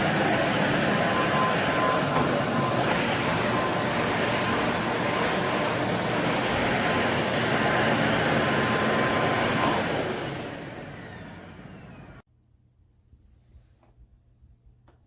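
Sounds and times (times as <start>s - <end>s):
vacuum cleaner whining: 0.0s - 12.2s.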